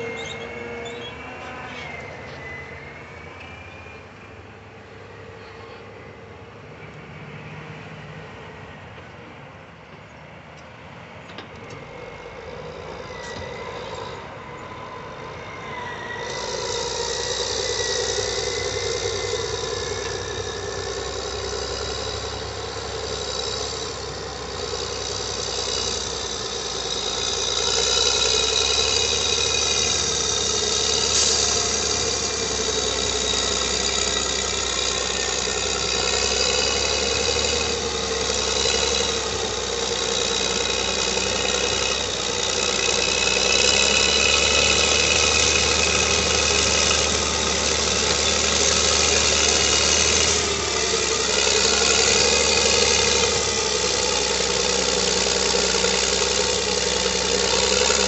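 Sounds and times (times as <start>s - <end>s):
high metallic squeal: 0.0s - 7.4s, 11.4s - 58.0s
heavy diesel engines under load: 0.0s - 58.0s.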